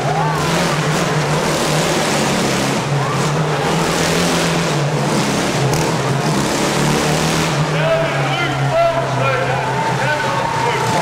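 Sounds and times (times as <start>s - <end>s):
motorcycle engine running hard: 0.0s - 11.0s.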